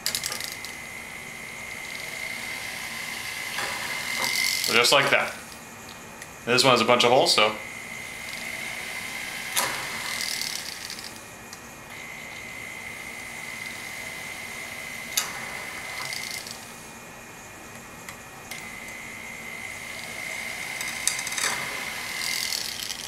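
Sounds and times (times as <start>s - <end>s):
rotary tool whining: 0.0s - 5.6s, 7.6s - 17.0s, 18.4s - 23.0s.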